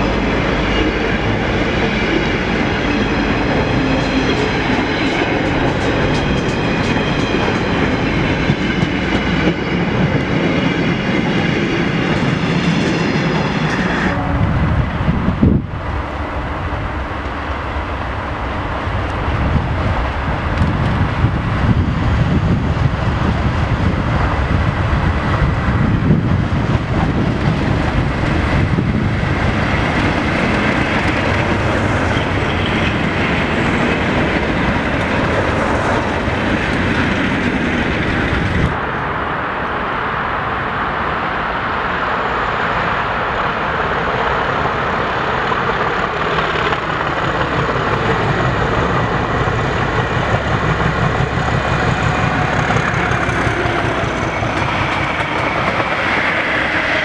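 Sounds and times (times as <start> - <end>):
diesel locomotives passing: 0.0 - 57.0
train rumble: 0.0 - 57.0.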